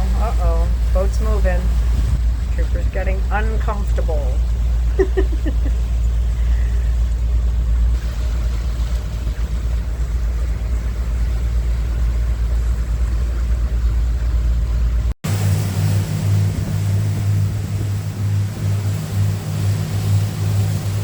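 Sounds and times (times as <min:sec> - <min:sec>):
motorboat engine rumble: 0:00.0 - 0:21.0.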